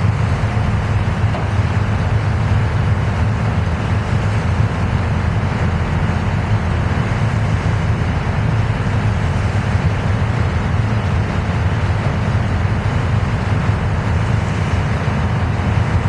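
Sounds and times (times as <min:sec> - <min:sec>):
boat engine droning: 0:00.0 - 0:16.0
water rushing past: 0:00.0 - 0:16.0.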